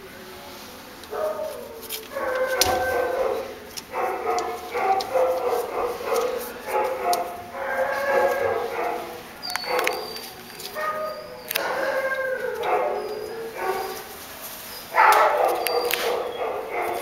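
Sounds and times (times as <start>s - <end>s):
dogs barking and howling: 1.1s - 17.0s.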